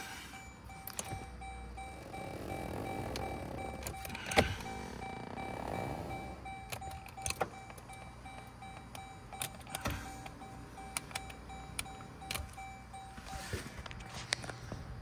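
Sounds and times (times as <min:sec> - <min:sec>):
pulsing electronic warning tone: 0:00.2 - 0:13.6
seat motor running faintly: 0:00.8 - 0:13.6.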